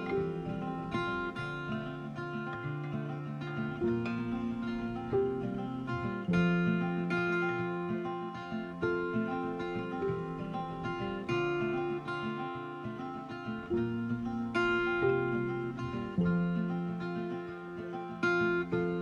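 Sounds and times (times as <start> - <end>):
acoustic guitar playing plucked notes: 0.0 - 19.0.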